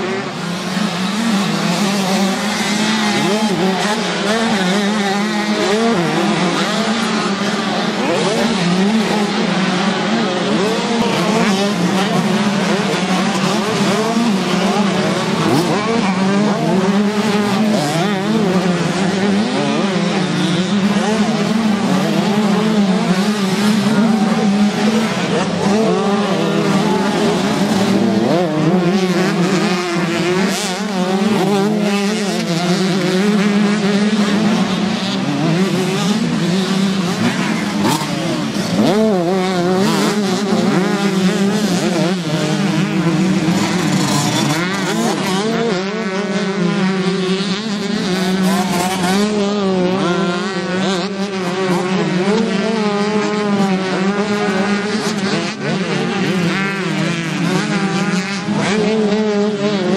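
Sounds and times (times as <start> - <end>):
motocross bikes revving: 0.0 - 59.9.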